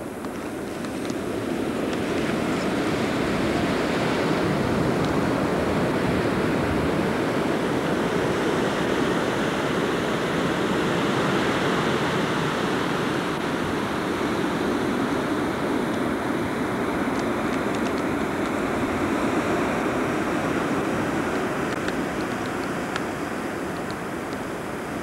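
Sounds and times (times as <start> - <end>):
wind blowing: 0.0 - 25.0.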